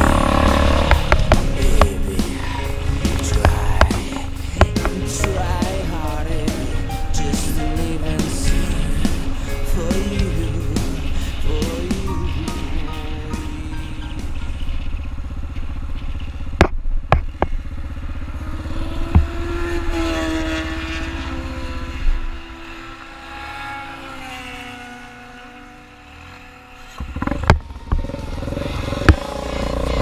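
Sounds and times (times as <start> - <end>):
motorcycle engine rumble: 0.0 - 30.0
motorcycle passing by: 0.0 - 30.0.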